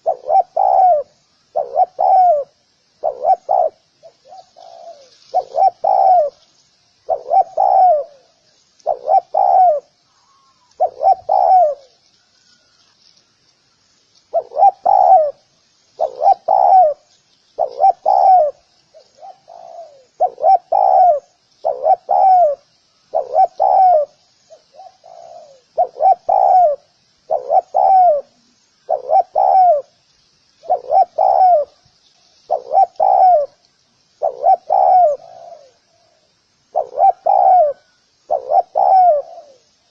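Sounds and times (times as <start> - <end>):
dove cooing: 0.0 - 12.0, 14.3 - 30.0, 30.6 - 31.8, 32.5 - 33.6, 34.2 - 39.8
faint high hiss: 0.0 - 39.9.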